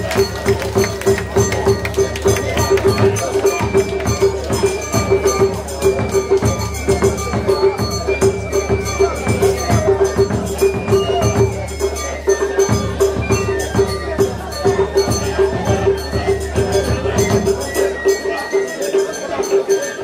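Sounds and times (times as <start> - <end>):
sharp percussive strikes: 0.0 - 20.0.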